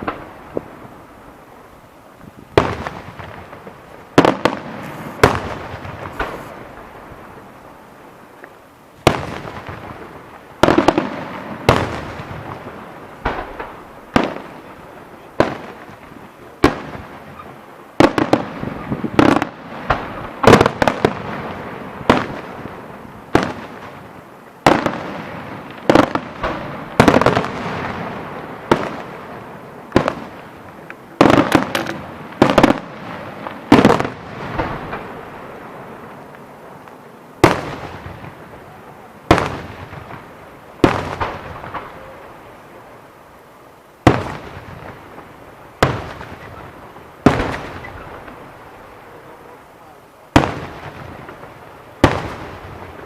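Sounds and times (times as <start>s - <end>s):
fireworks bangs with echo: 0.0s - 1.6s, 2.4s - 43.2s, 44.0s - 53.0s.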